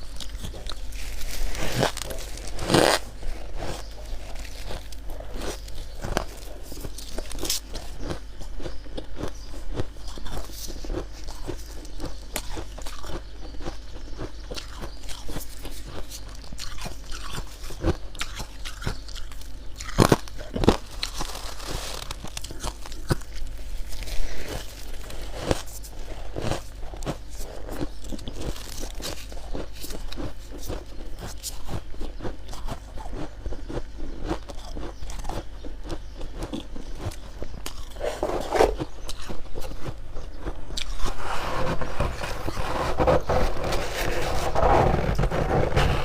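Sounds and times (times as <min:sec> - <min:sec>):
chewing crunchy frost: 0:00.0 - 0:46.0.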